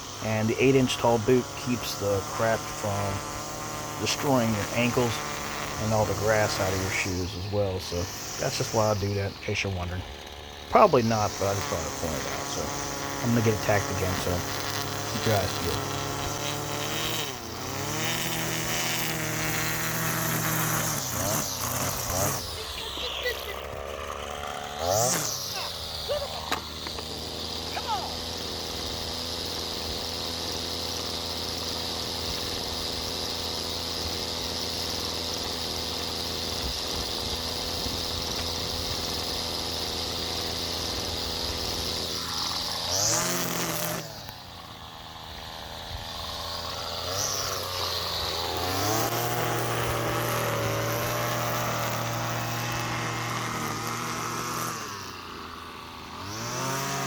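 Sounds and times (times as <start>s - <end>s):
string trimmer cutting grass: 0.0s - 57.0s.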